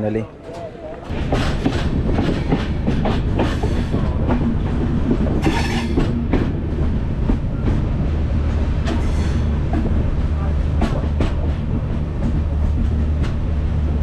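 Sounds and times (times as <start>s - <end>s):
train rumbling: 0.0s - 14.0s
wheels clacking over rails: 0.4s - 14.0s.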